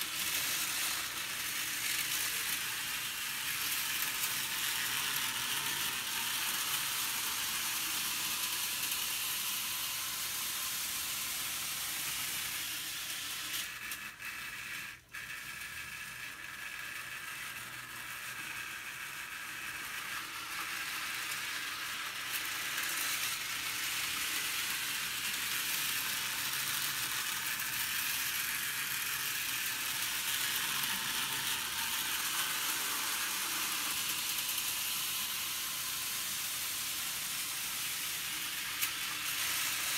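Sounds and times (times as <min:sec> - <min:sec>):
model train whirring on track: 0:00.0 - 0:39.9.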